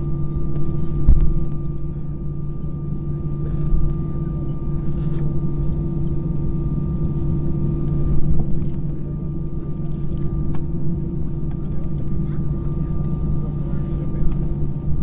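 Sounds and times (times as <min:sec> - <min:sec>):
jet engine cabin drone: 0:00.0 - 0:15.0.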